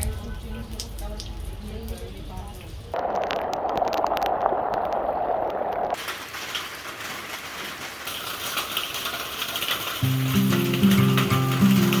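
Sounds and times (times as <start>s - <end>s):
rain drops ticking: 0.0s - 12.0s
steady rain falling: 0.0s - 12.0s.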